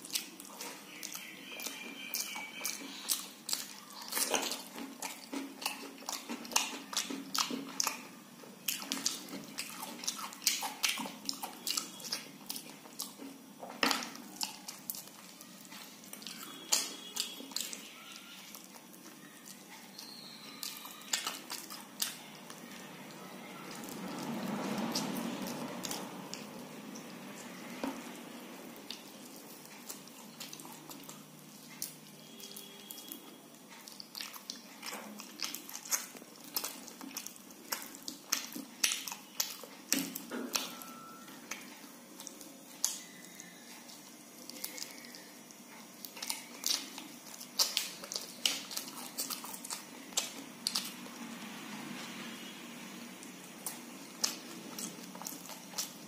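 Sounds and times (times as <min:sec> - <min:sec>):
wet chewing and lip-smacking: 0:00.0 - 0:51.5, 0:53.1 - 0:56.0.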